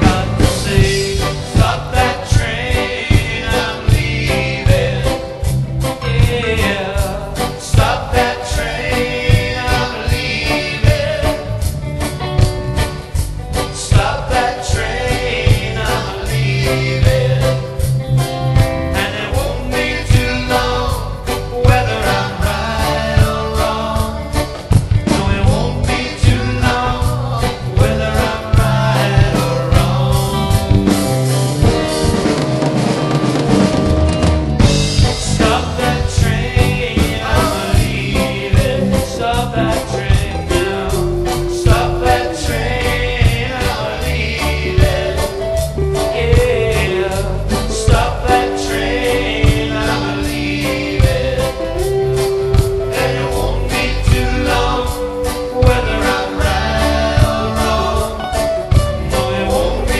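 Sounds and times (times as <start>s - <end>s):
live reggae band playing: 0.0s - 59.9s.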